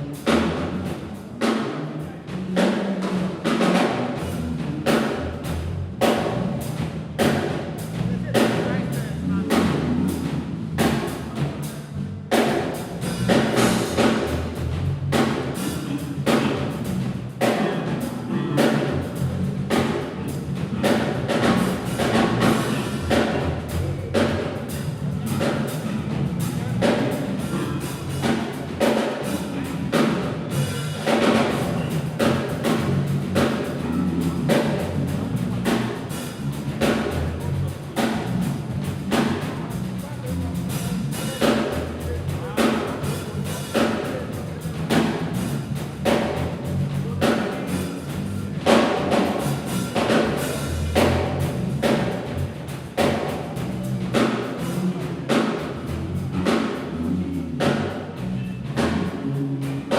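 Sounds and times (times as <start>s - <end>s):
fast drum kit solo: 0.0s - 59.9s.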